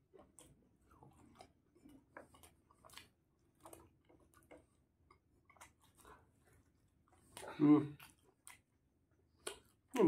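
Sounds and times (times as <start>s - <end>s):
mouth clicks and chewing: 0.0s - 10.0s.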